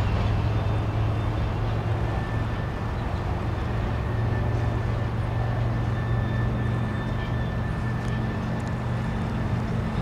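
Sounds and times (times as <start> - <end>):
freight train rumbling over bridge: 0.0 - 10.0.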